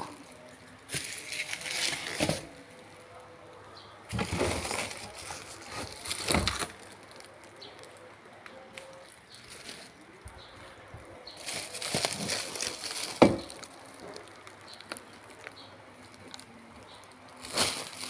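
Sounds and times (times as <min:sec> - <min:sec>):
bubble wrap crinkling: 0:00.0 - 0:03.2, 0:04.1 - 0:10.3, 0:11.1 - 0:18.0.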